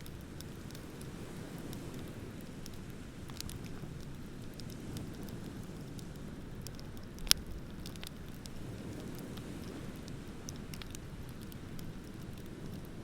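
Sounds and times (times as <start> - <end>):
wood bonfire crackling: 0.0 - 13.0.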